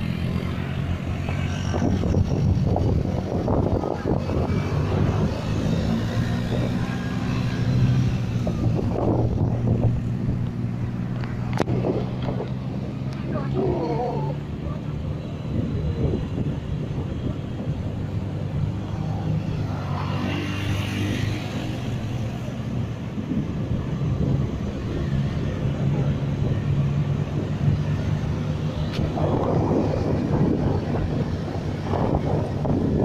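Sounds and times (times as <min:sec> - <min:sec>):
road and wind noise: 0:00.0 - 0:33.0.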